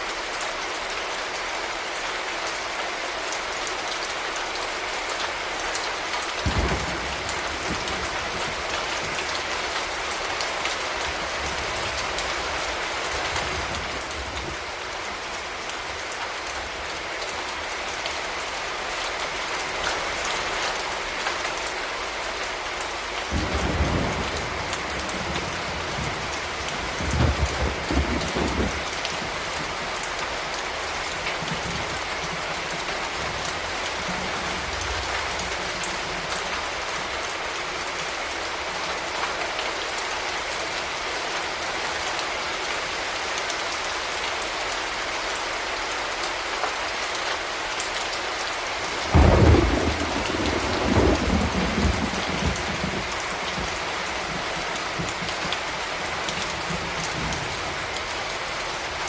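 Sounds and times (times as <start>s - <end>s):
rain spattering on hard surfaces: 0.0s - 59.0s.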